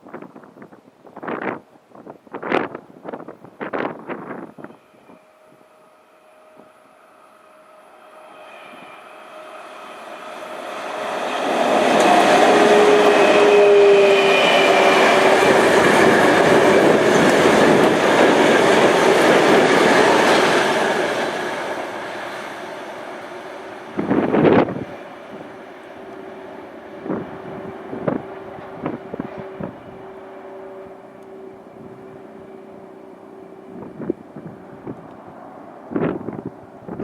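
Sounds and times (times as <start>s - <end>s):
train passing: 2.3s - 37.0s.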